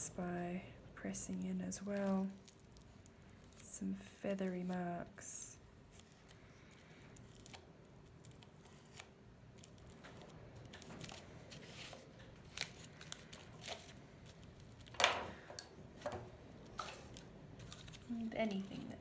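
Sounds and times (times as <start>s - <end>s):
aluminium foil crinkling: 1.1s - 15.0s, 16.6s - 19.0s.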